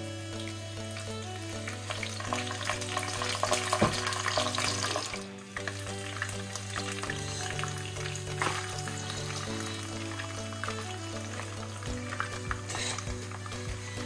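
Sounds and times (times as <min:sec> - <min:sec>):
background music with held notes: 0:00.0 - 0:14.0
onions sizzling in oil: 0:00.0 - 0:14.0
wooden spatula stirring: 0:01.8 - 0:14.0.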